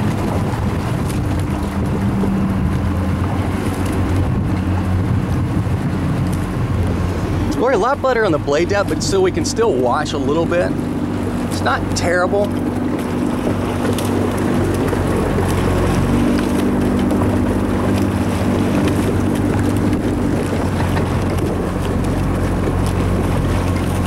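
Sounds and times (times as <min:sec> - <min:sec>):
outboard motor running: 0:00.0 - 0:24.0
wind on microphone: 0:00.0 - 0:24.0.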